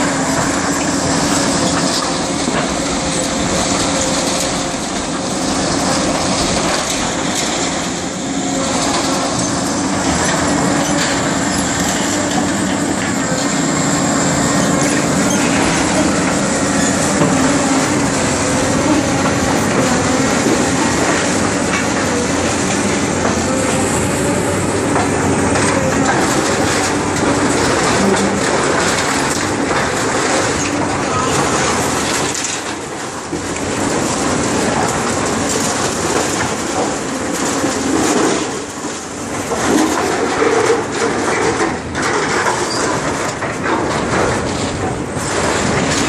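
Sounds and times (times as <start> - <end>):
excavator engine and hydraulics: 0.0 - 46.0
splintering wood and metal crunching: 0.0 - 46.0.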